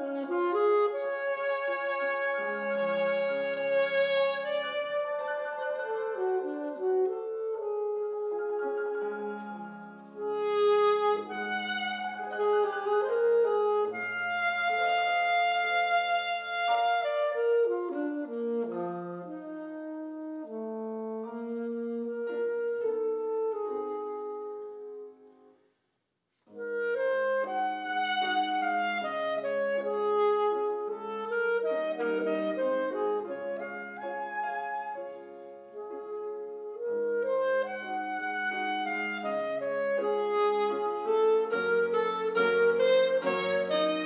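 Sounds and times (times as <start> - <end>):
alto saxophone solo: 0.0 - 25.6, 26.5 - 44.0
piano accompaniment: 0.0 - 25.6, 26.5 - 44.0.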